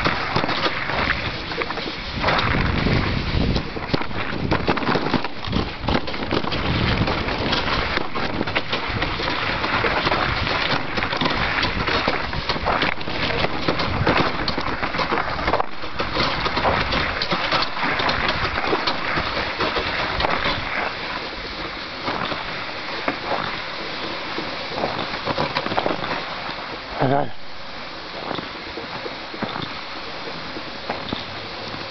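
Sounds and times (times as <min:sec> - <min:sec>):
sled runners scraping snow: 0:00.0 - 0:31.9.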